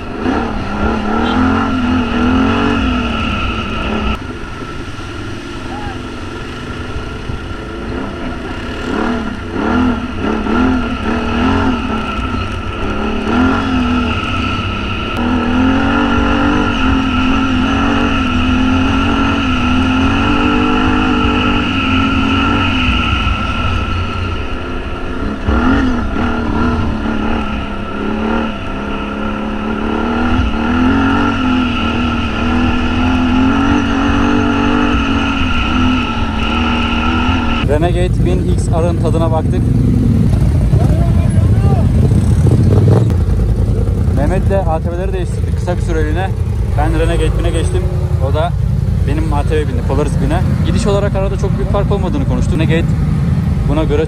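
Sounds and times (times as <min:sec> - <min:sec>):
atv engine revving: 0:00.0 - 0:54.0
high whine: 0:00.0 - 0:54.0.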